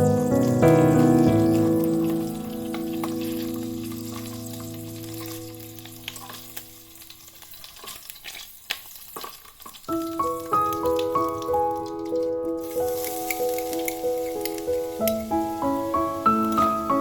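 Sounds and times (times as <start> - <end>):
meat frying in a pan: 0.0 - 17.0
sharp crackles and pops: 0.3 - 17.0.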